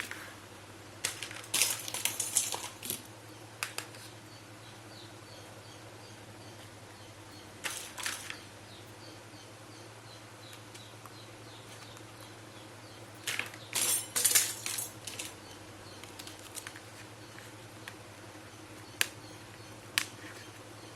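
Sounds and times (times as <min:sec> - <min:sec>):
faint steady hum: 0:00.0 - 0:20.9.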